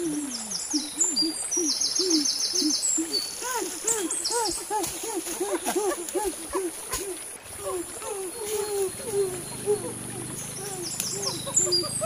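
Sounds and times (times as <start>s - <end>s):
men hooting in rhythmic chant: 2.1s - 12.0s.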